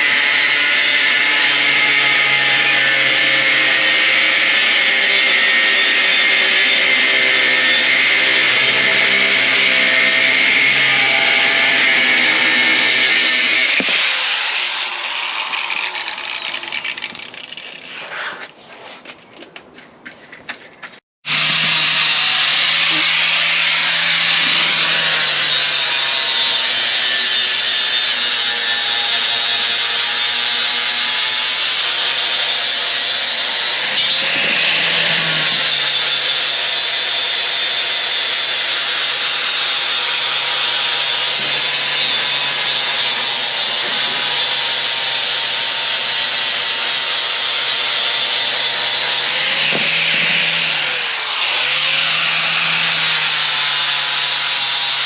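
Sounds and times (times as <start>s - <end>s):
electric power tool on metal: 0.0s - 17.9s, 21.3s - 55.0s.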